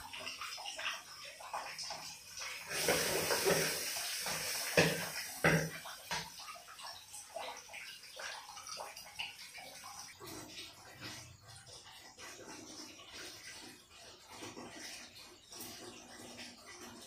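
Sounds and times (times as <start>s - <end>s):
small splashes and clicks: 0.0s - 17.0s
water running and splashing: 0.0s - 17.0s.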